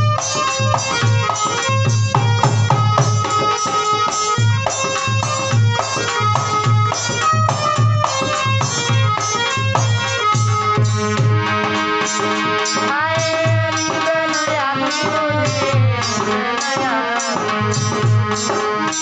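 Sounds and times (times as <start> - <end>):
dholak drum beat: 0.0 - 19.0
harmonium melody: 0.0 - 19.0.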